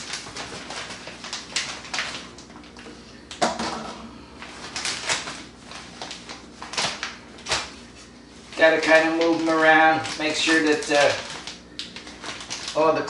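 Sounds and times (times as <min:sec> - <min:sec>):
plastic bag crinkling: 0:00.0 - 0:03.4, 0:04.4 - 0:13.0.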